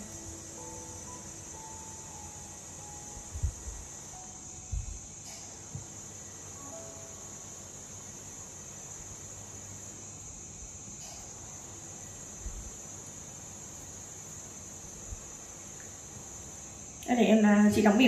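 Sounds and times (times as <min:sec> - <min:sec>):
high-pitched insect chirring: 0:00.0 - 0:18.0.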